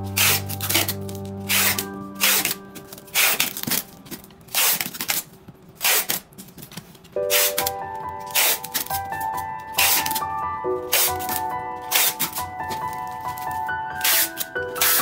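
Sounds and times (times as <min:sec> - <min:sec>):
background music: 0:00.0 - 0:05.2, 0:07.1 - 0:15.0
packing tape ripping: 0:00.0 - 0:09.0, 0:09.8 - 0:10.3, 0:10.9 - 0:15.0.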